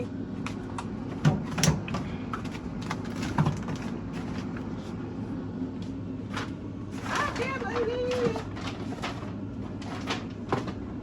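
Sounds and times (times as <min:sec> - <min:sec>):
low steady hum: 0:00.0 - 0:11.0
packages and containers clattering: 0:00.5 - 0:04.8, 0:06.3 - 0:11.0.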